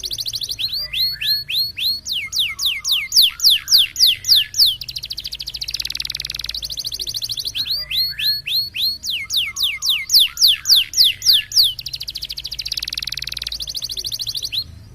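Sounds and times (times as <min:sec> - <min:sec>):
canary singing: 0:00.0 - 0:14.9.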